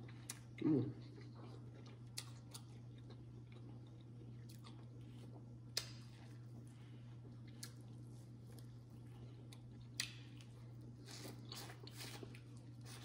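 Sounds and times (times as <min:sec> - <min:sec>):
chewing corn on the cob: 0:00.0 - 0:13.0
faint low hum: 0:00.0 - 0:13.0.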